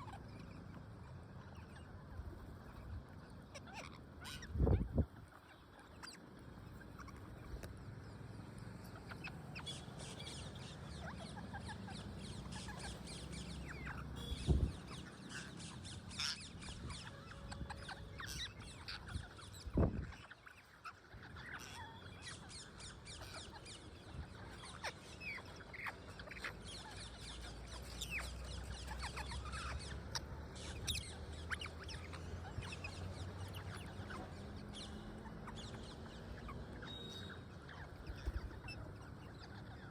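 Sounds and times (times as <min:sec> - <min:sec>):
parrots chirping and calling: 0:00.0 - 0:39.9.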